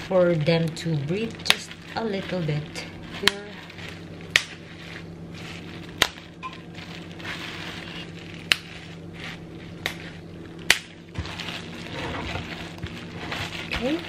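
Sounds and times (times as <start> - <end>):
plastic bag crinkling: 0.0 - 14.0
toothpick popping plastic bag: 0.6 - 14.0.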